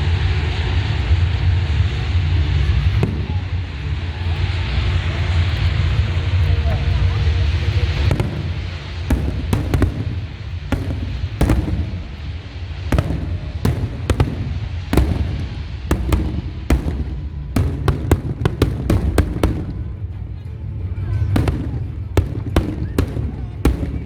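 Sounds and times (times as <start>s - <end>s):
continuous low rumble: 0.0s - 24.0s
fireworks bangs: 0.4s - 20.5s, 21.2s - 24.0s.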